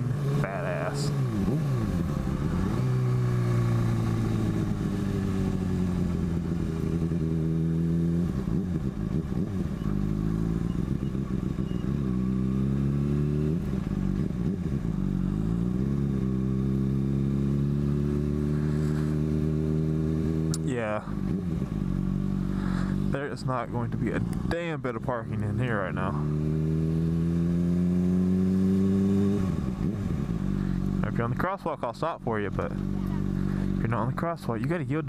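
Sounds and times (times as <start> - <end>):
motorcycle engine accelerating: 0.0 - 34.4.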